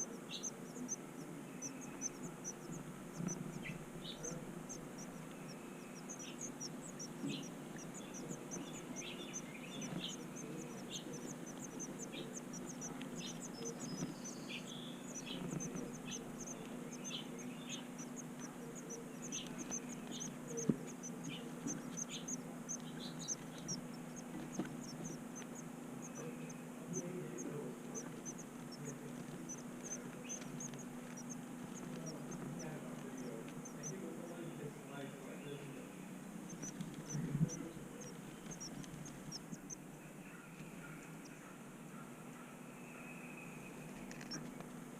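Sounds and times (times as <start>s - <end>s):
rapid high bird chirps: 0.0s - 34.6s, 35.4s - 41.5s
lower bird chirps: 0.0s - 41.6s, 42.3s - 44.6s.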